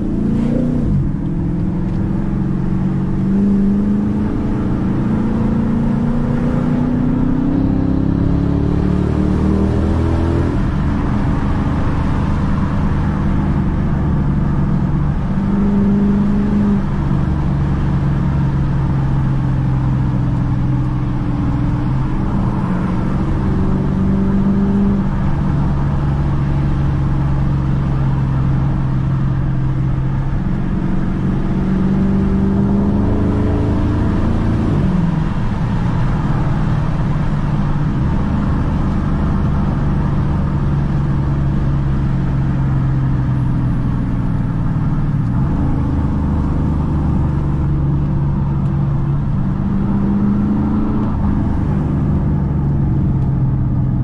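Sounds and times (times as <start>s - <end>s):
car engine and exhaust: 0.0s - 54.0s
tyre and road noise: 0.0s - 54.0s.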